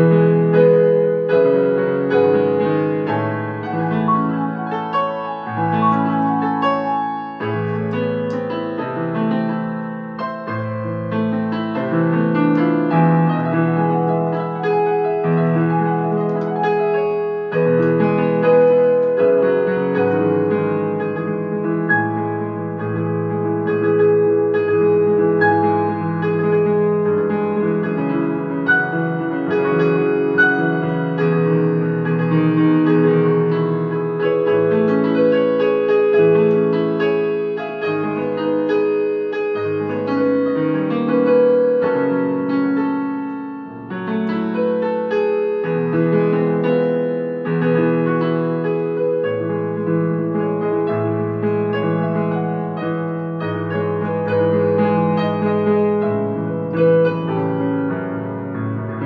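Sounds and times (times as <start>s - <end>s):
electronic keyboard piano playing: 0.0s - 59.0s.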